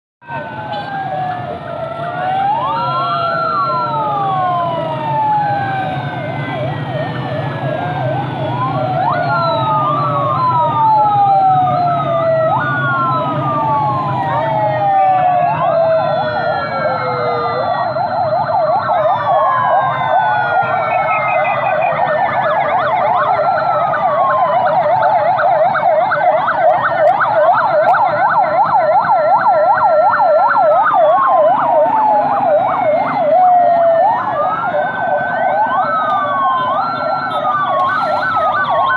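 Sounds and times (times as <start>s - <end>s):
low rumble of vehicle engines: 0.2s - 38.9s
police sirens wailing and yelping: 0.2s - 38.9s.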